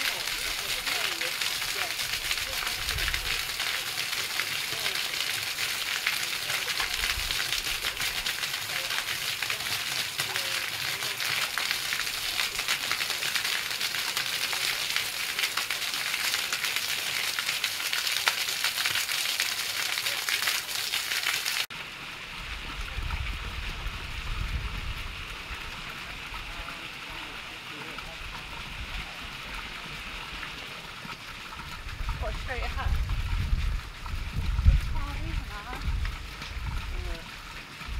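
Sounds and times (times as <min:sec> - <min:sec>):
fountain water splashing on basin: 0:00.0 - 0:37.9
small bubbler jets splashing: 0:00.0 - 0:37.9.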